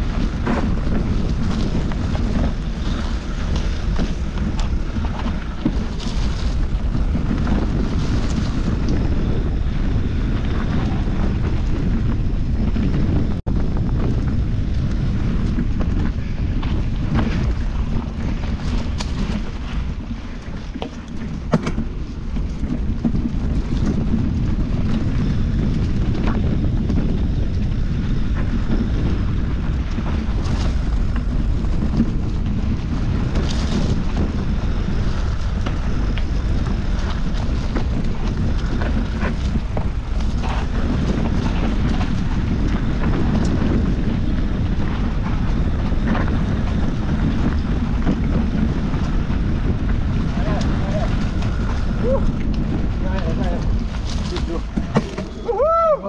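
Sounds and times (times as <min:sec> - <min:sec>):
bike knocks and clicks: 0:00.0 - 0:55.4
bike rolling on rough dirt: 0:00.0 - 0:56.0
wind buffeting microphone: 0:00.0 - 0:56.0.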